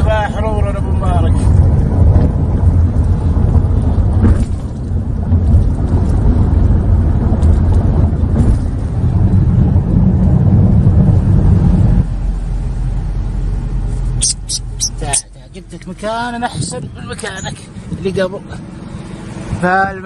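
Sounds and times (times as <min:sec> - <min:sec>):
car cabin engine and road rumble: 0:00.0 - 0:20.0.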